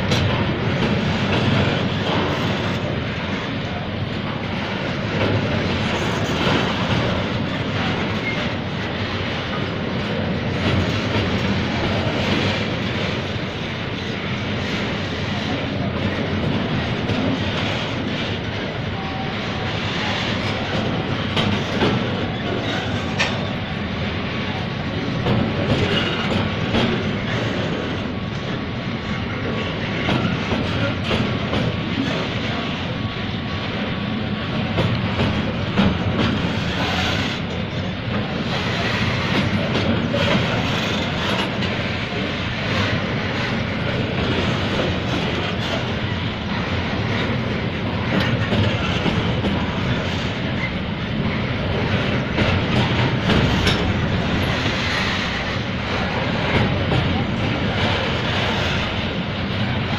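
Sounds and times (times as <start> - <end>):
steel wheels rumbling on track: 0.0 - 59.9
wheels clacking on rail joints: 0.0 - 59.9.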